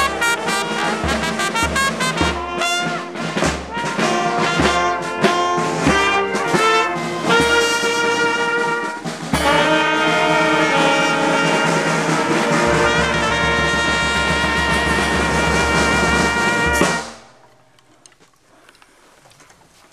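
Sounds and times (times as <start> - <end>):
brass band playing a march: 0.0 - 17.4.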